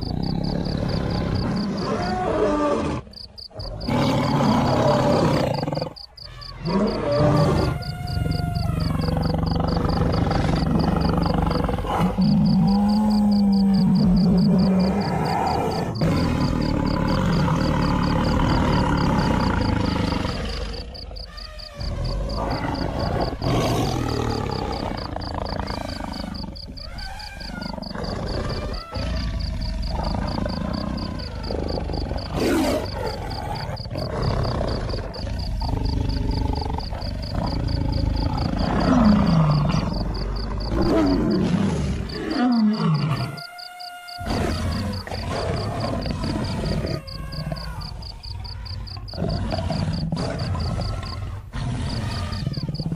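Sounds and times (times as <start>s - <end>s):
lions growling and roaring: 0.0s - 52.9s.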